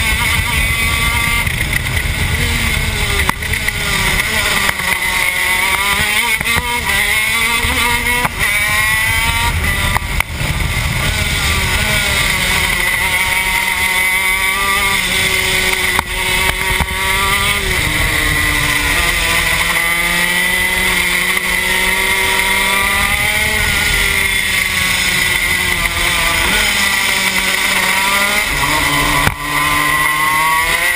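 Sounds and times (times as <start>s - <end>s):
kart engine at racing speed: 0.0s - 30.9s.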